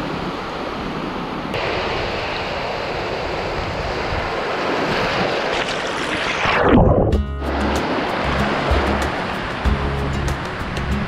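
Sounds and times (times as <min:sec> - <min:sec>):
ocean surf washing and foaming: 0:00.0 - 0:11.0.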